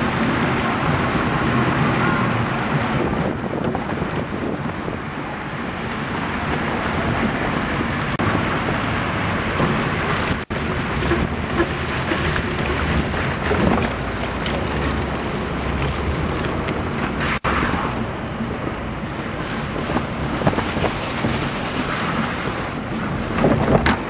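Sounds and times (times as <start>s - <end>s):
wind rush on microphone: 0.0s - 24.0s.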